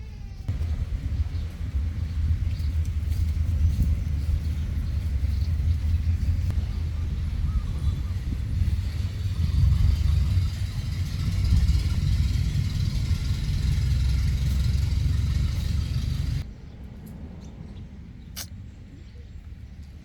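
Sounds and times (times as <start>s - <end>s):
low rumble with faint hiss: 0.4s - 20.0s.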